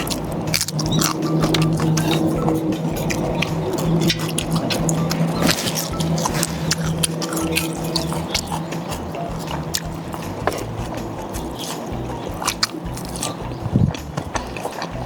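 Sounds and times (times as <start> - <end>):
background music: 0.0 - 15.0
person chewing: 0.0 - 15.0.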